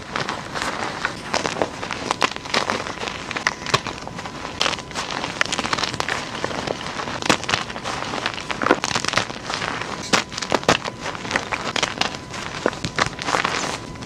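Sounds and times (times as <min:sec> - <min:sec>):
chalk crunching and snapping: 0:00.1 - 0:14.0.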